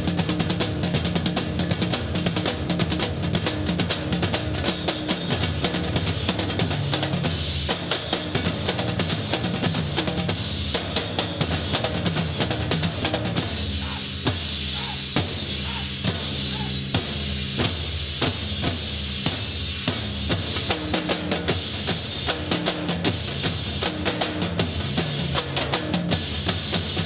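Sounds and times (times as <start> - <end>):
bass drums: 0.0 - 27.0
snare drums: 0.0 - 27.0.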